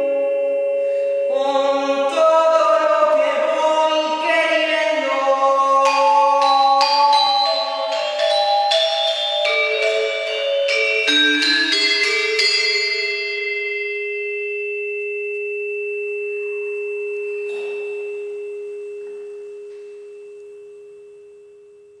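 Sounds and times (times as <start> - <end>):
metallophone notes ringing: 0.0 - 3.5, 4.1 - 21.9.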